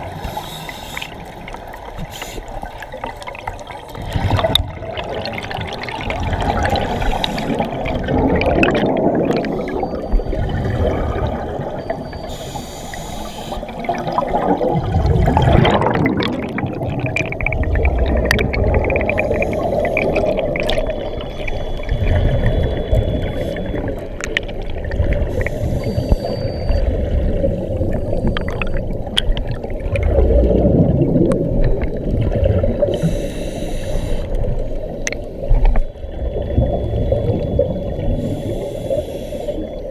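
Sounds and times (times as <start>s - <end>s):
regulator bubbles hissing: 0.0s - 39.9s
underwater water rushing: 0.0s - 39.9s.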